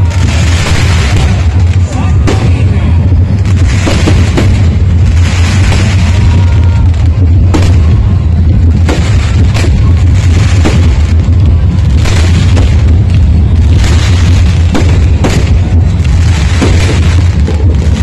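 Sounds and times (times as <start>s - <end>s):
fireworks bangs: 0.0s - 18.0s
low booming rumble: 0.0s - 18.0s.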